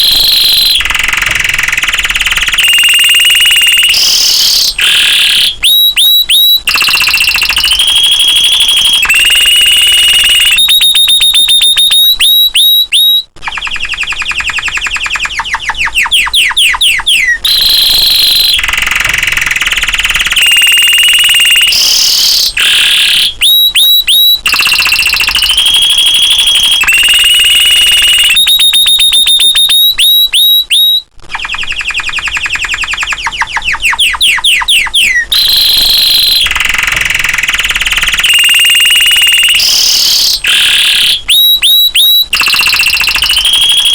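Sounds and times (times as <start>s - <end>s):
canary singing with trills: 0.0s - 43.9s.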